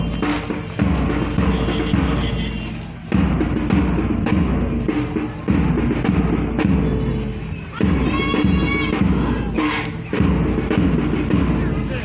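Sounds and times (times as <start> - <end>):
marching music with heavy drum: 0.0 - 12.0.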